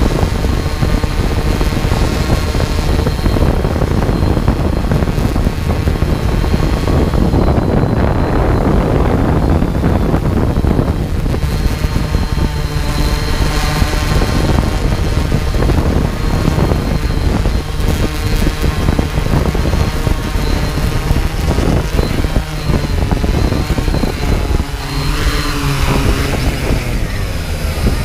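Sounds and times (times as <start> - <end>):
drone rotors whining: 0.0 - 28.0
wind buffeting microphone: 0.0 - 28.0.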